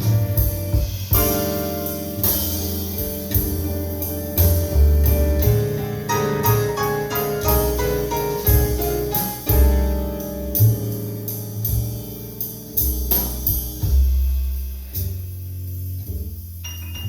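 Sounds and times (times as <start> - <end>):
piano melody: 0.0 - 14.7, 16.6 - 17.0
deep bass notes: 0.0 - 17.0.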